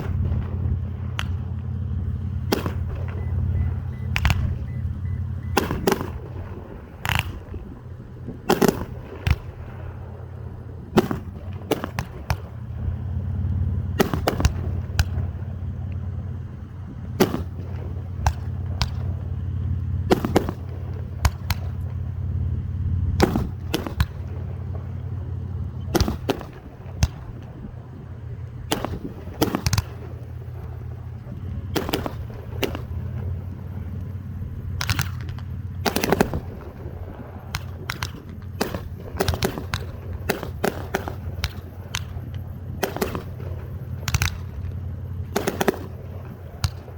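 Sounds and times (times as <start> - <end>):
fireworks bangs and cracks: 0.0 - 22.5, 23.1 - 27.8, 28.6 - 46.9
low rumble: 0.0 - 46.9.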